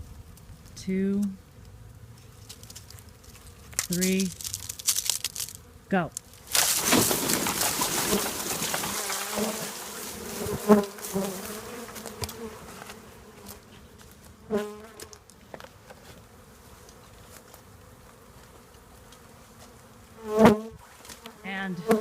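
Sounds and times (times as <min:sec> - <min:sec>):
vine rustling: 0:00.0 - 0:19.9
bee swarm buzzing: 0:01.4 - 0:22.0.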